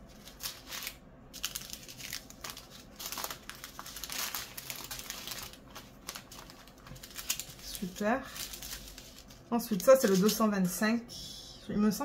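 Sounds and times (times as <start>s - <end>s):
plastic sachets crinkling: 0.0s - 10.4s.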